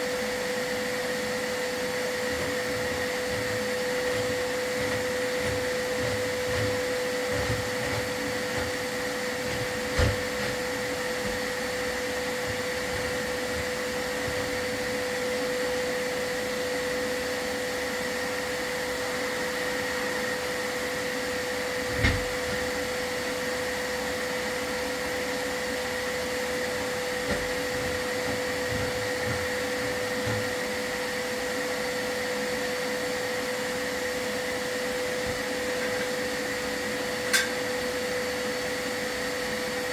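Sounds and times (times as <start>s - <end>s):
vacuum running with whine: 0.0s - 39.9s.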